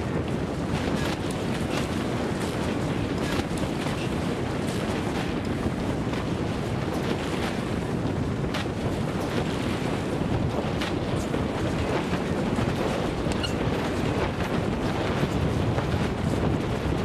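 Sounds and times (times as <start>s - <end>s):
sea water rushing along hull: 0.0s - 17.0s
wind buffeting microphone: 0.0s - 17.0s.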